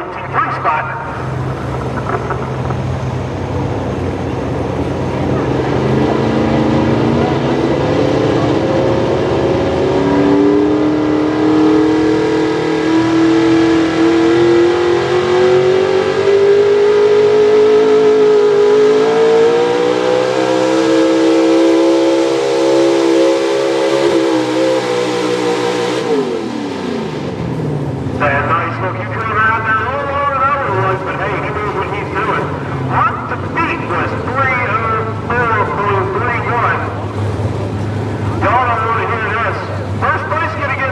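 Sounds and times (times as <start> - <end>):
truck engine at high revs: 0.0 - 40.9.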